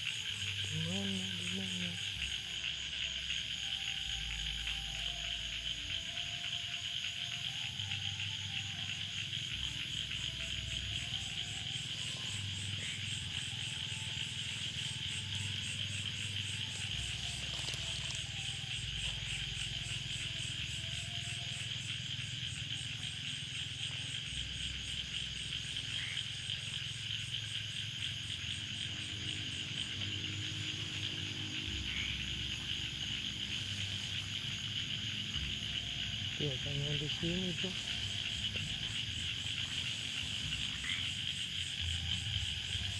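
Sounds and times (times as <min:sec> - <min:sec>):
faint background music: 0:00.0 - 0:42.9
insects buzzing: 0:00.0 - 0:42.9.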